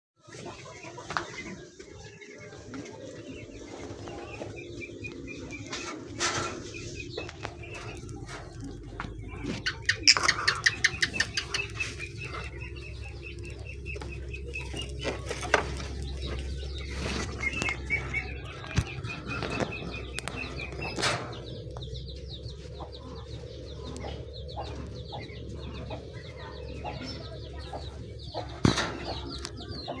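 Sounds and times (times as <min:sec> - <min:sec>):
chicks begging chirps: 0:00.2 - 0:30.0.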